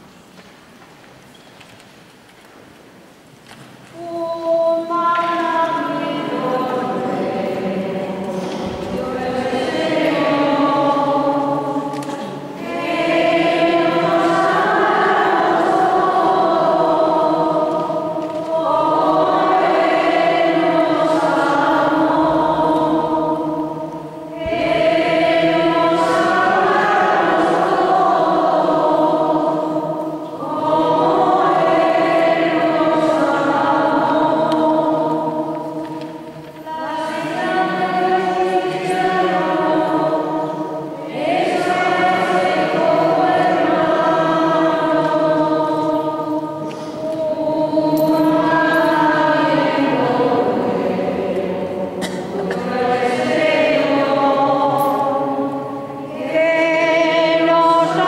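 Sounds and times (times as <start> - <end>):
group singing a hymn: 3.9 - 58.0.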